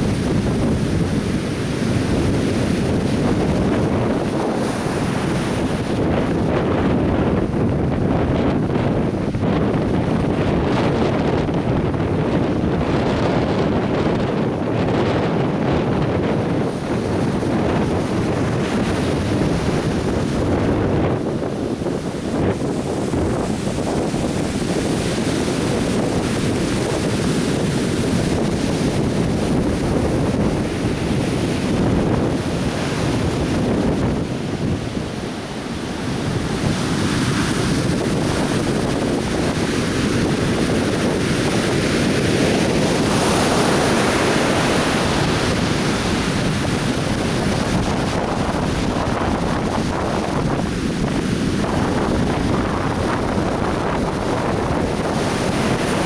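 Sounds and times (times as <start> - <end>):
surf breaking on a beach: 0.0 - 56.0
wind buffeting microphone: 0.0 - 56.0.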